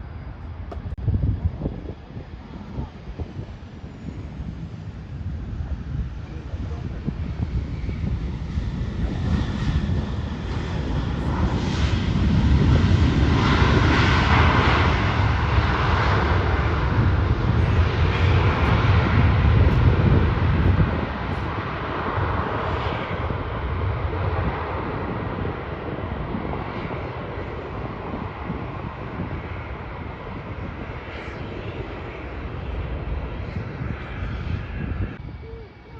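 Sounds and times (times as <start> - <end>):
airliner engines roaring: 0.0 - 35.9.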